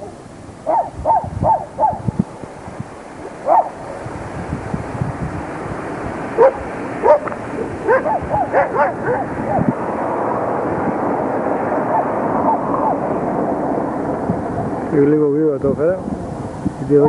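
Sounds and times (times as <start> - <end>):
background rush: 0.0 - 17.0.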